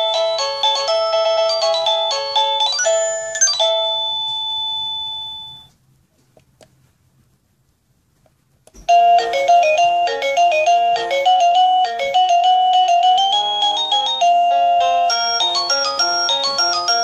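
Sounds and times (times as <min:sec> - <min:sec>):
doorbell chime melody: 0:00.0 - 0:05.7, 0:08.9 - 0:17.0.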